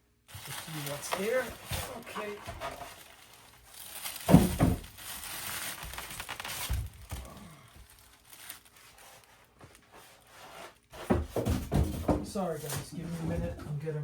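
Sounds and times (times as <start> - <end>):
foam and plastic rustling: 0.1 - 14.0.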